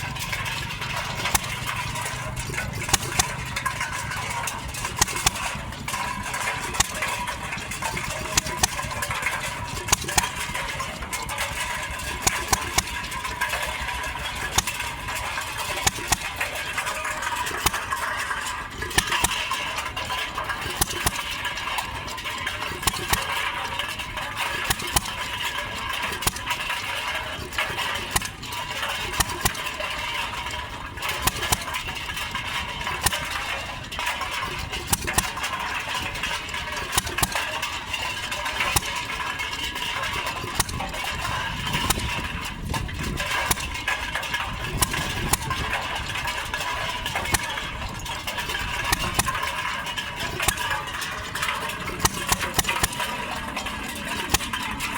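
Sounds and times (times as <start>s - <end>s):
cans rattling in mixer drum: 0.0s - 54.9s
engine firing pops: 0.0s - 54.9s.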